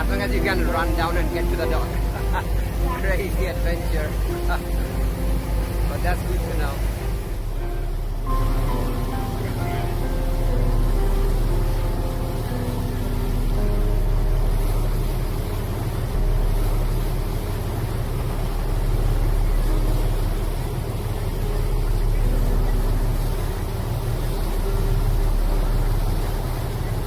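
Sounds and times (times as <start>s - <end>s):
boat engine rumbling: 0.0s - 27.0s
water hissing: 0.0s - 27.0s.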